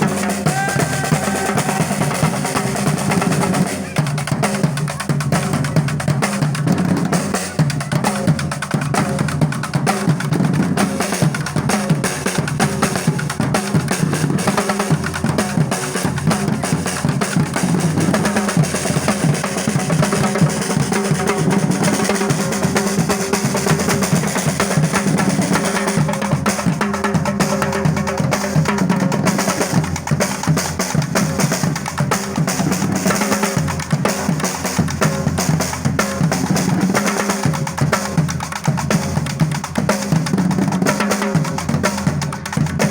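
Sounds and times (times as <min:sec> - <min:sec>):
drum and percussion music: 0:00.0 - 0:42.9.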